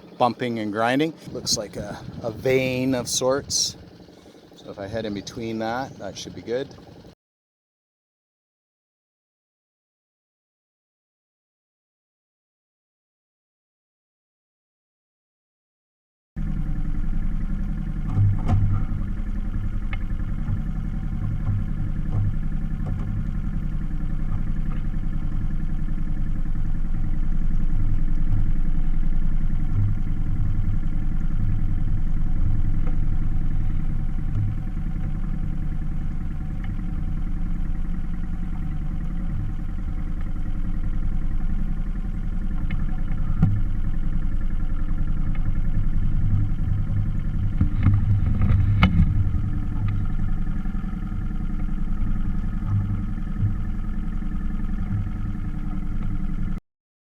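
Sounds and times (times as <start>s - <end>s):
outboard motor droning: 0.0s - 7.2s, 16.4s - 56.6s.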